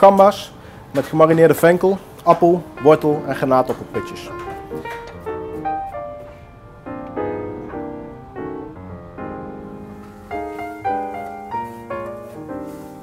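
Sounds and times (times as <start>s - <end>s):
piano music: 1.2s - 13.0s.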